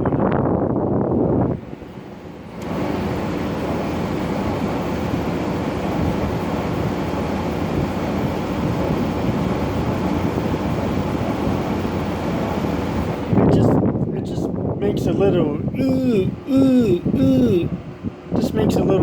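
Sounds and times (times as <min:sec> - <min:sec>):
air conditioner fan rushing: 0:00.0 - 0:19.0
compressor hum: 0:00.0 - 0:19.0.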